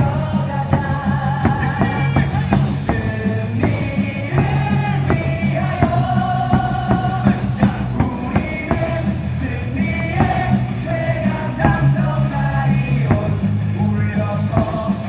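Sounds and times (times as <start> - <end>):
amplified cheer music with beat: 0.0 - 15.0
voices singing and shouting: 0.0 - 15.0.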